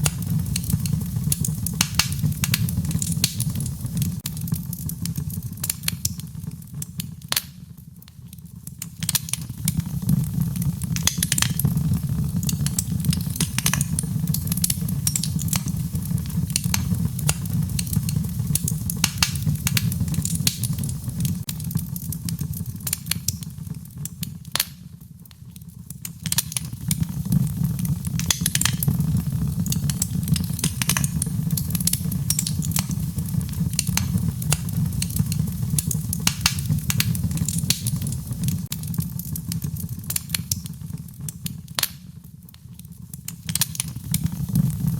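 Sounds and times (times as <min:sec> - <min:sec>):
low rumble of flames: 0:00.0 - 0:44.9
wood fire popping and snapping: 0:00.0 - 0:44.9.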